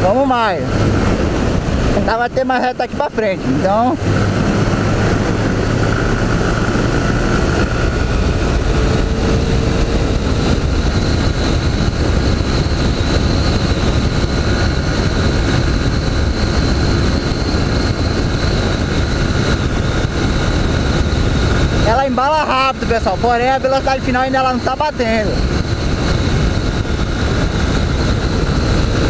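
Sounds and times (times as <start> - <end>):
motorcycle engine at high revs: 0.0 - 29.0.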